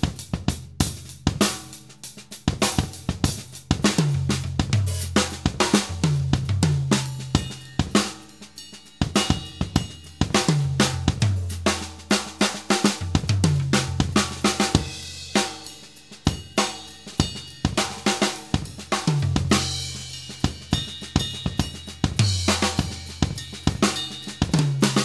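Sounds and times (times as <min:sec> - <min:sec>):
drum kit groove: 0:00.0 - 0:25.0.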